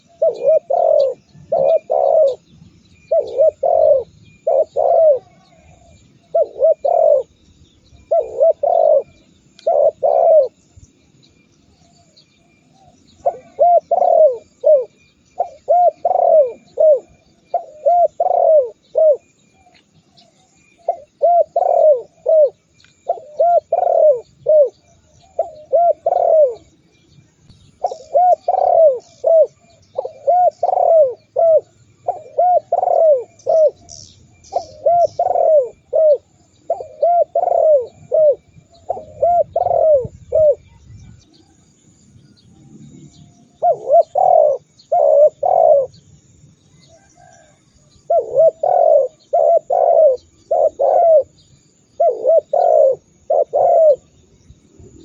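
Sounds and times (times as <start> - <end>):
dove cooing: 0.0 - 10.6, 11.7 - 26.8, 27.8 - 41.7, 43.5 - 46.1, 46.7 - 55.0.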